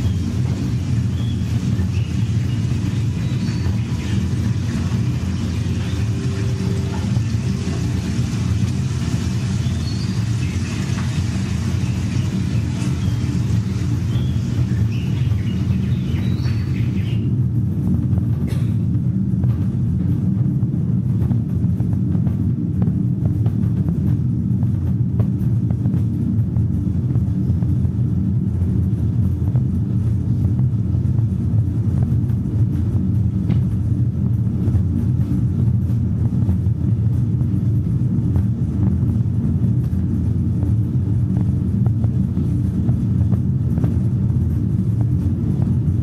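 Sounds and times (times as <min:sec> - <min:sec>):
low rumbling drone: 0:00.0 - 0:46.0.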